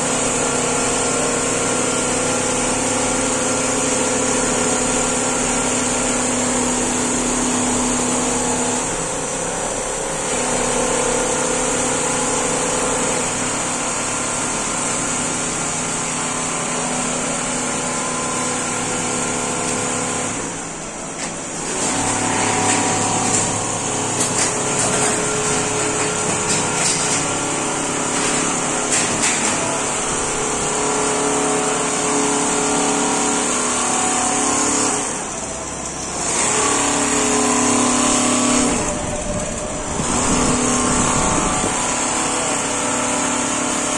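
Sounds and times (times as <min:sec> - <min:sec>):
quilting machines running: 0:00.0 - 0:43.9.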